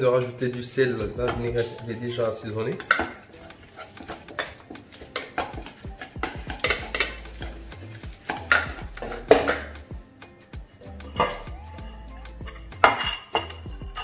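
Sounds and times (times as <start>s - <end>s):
utensils scraping a steel bowl: 0.4s - 9.9s, 10.8s - 14.0s.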